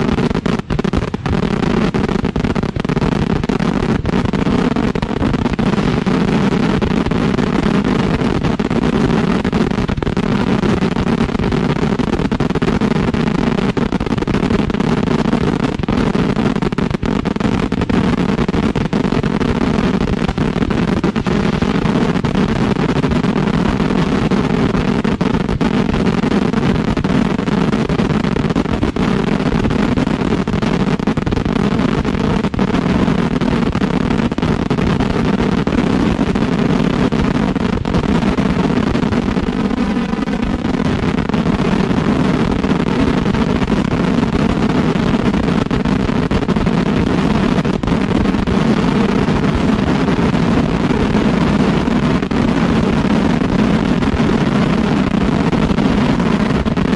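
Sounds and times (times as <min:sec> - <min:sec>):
fireworks explosions barrage: 0:00.0 - 0:56.9.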